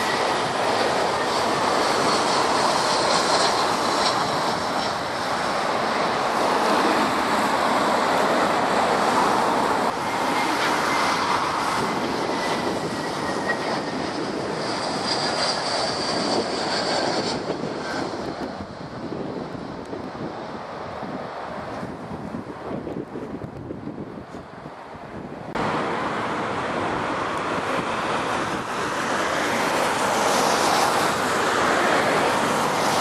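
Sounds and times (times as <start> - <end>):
jet airliners flying low: 0.0 - 33.0.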